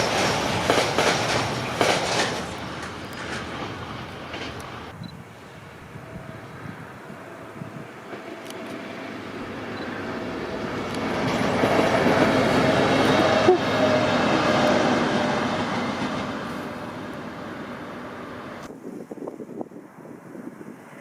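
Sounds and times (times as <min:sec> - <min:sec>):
train passing: 0:00.0 - 0:18.8.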